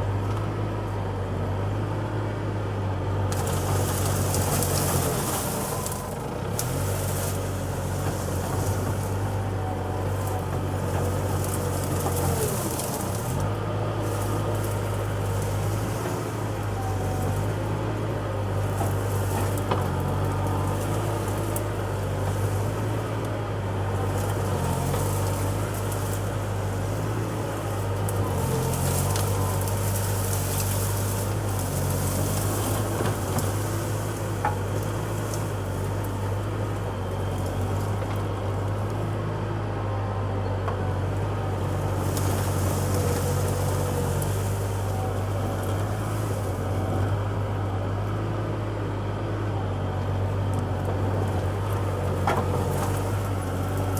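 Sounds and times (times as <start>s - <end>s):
skid steer engine running: 0.0s - 53.9s.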